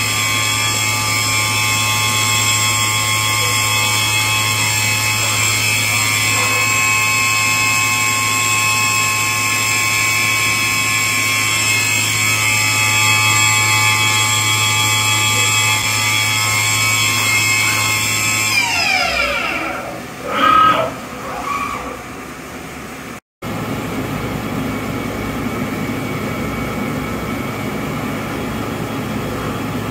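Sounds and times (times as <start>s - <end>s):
grinding machine whine: 0.0s - 29.9s
steady machinery hum: 0.0s - 29.9s.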